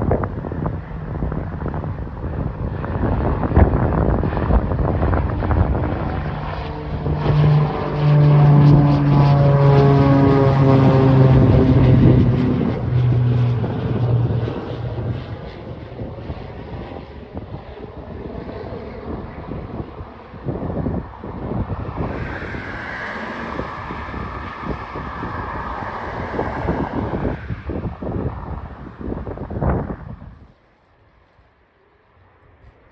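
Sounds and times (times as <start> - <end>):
wind on microphone: 0.0 - 30.7
propeller airplane taking off: 0.0 - 32.9.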